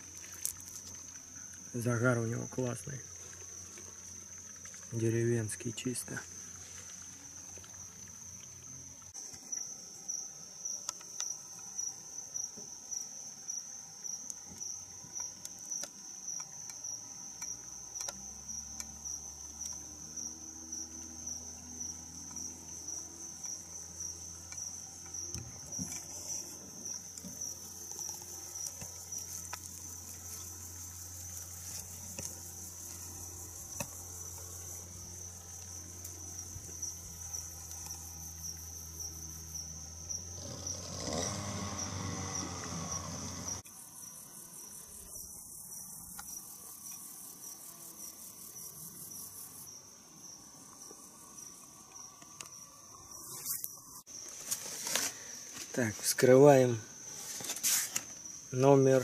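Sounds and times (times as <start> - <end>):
insects chirping trill: 0.0 - 59.0.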